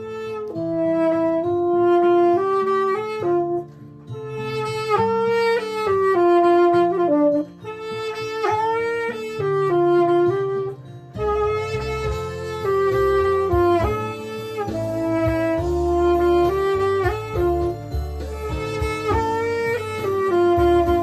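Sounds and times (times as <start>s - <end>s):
slow instrumental ballad melody: 0.0s - 21.0s.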